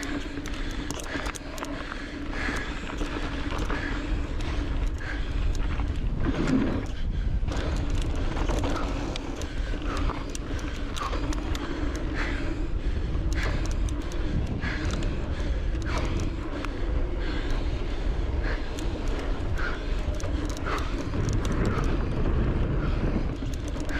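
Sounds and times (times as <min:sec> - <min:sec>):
bike chain and frame clattering: 0:00.0 - 0:23.9
tyres on loose dirt: 0:00.0 - 0:23.9
wind rumbling on microphone: 0:00.0 - 0:23.9.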